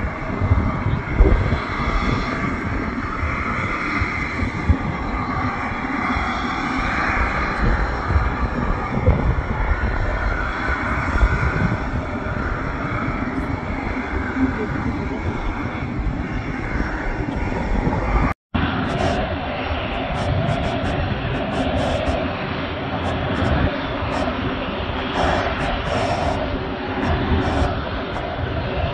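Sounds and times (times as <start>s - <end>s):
gusty low rumble: 0.0s - 28.9s
jet engine whine and rush: 0.0s - 28.9s.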